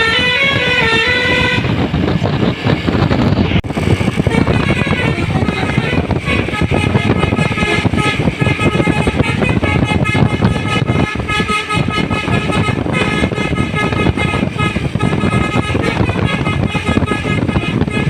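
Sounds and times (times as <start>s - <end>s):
bus engine running: 0.0s - 18.0s
bus horn playing multi-note tune: 0.0s - 18.0s.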